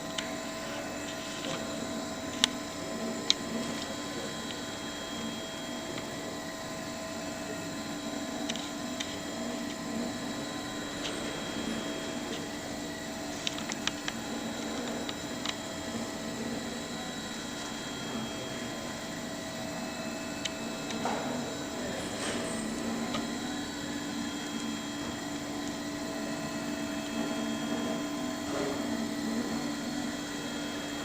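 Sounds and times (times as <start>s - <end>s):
printer motors humming: 0.0s - 31.0s.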